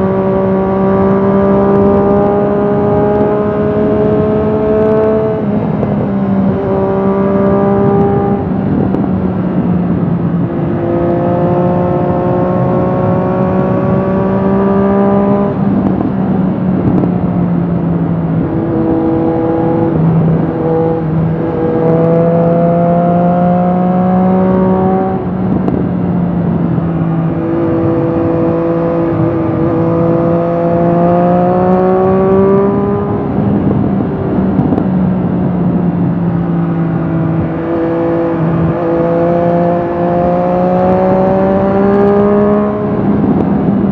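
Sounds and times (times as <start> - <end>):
motorcycle engine revving: 0.0 - 9.3, 9.9 - 43.9.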